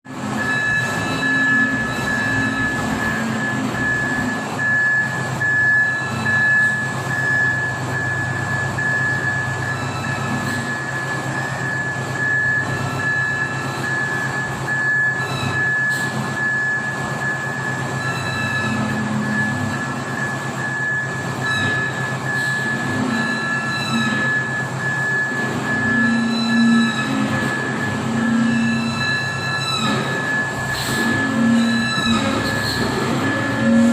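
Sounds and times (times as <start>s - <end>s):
diesel engine running: 0.1s - 33.9s
high-pitched whine: 0.1s - 33.9s.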